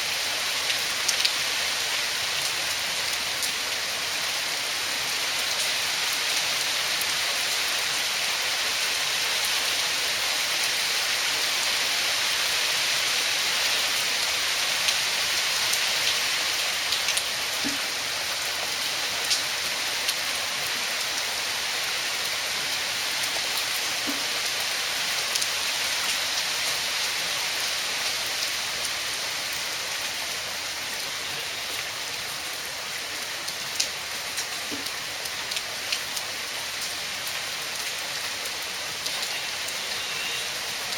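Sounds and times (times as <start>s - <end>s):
heavy rain hissing: 0.1s - 40.9s.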